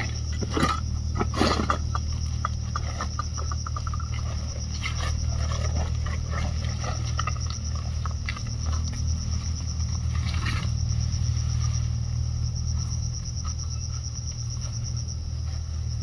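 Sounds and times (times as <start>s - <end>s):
insects droning: 0.0s - 16.0s
low steady rumble: 0.0s - 16.0s.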